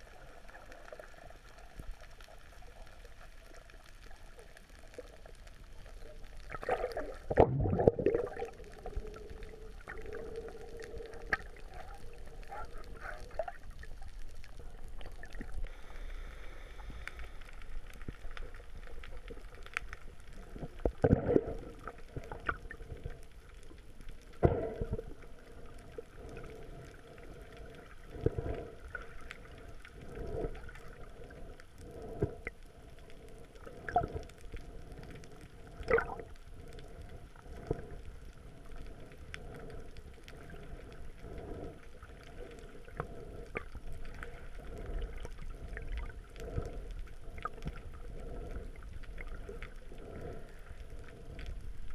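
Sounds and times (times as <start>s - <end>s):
muffled underwater rush: 0.0s - 51.9s.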